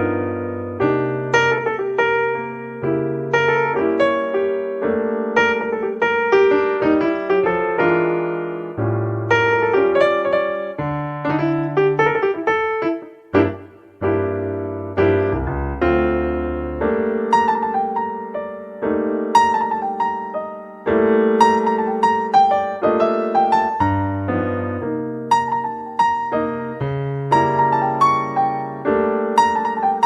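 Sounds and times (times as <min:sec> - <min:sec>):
cheerful piano music: 0:00.0 - 0:30.0.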